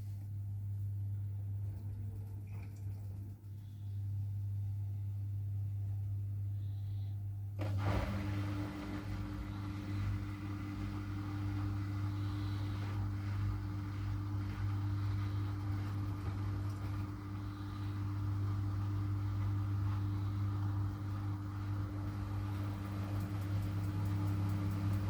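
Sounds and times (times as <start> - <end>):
second steady hum: 0.0 - 25.0
washing machine low hum: 0.0 - 25.0.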